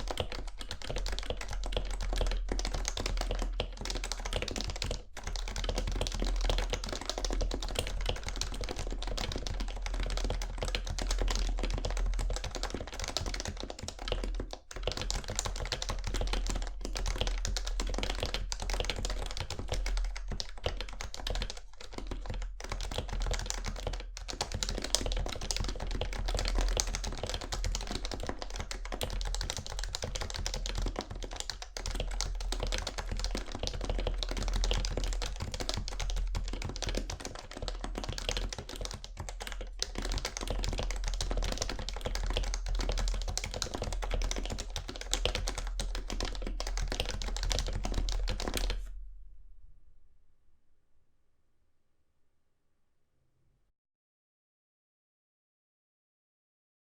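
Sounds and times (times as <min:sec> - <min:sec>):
fast keyboard typing: 0:00.0 - 0:48.8.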